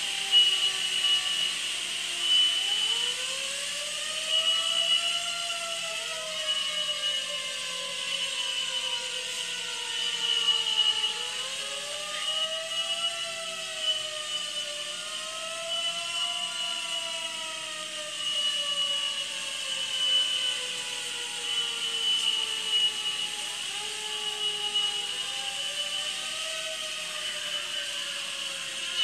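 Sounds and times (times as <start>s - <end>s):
mechanical whine of spraying machinery: 0.0s - 29.0s.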